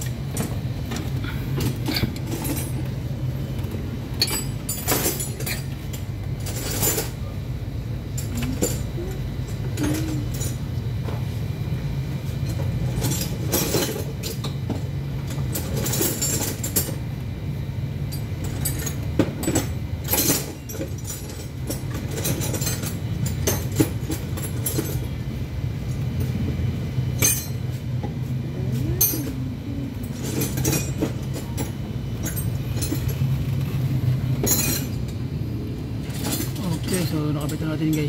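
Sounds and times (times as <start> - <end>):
metal tools clinking: 0.0 - 7.4, 8.1 - 10.7, 12.4 - 17.0, 18.1 - 25.2, 27.1 - 35.2, 36.0 - 38.0
low mechanical hum: 0.0 - 38.0.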